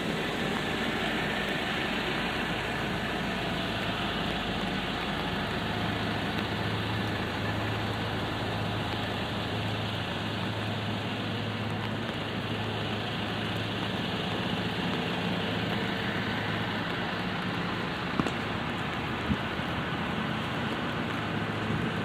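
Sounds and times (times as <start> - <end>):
light rain hiss: 0.0 - 22.0
vehicle engine idling: 0.0 - 22.0.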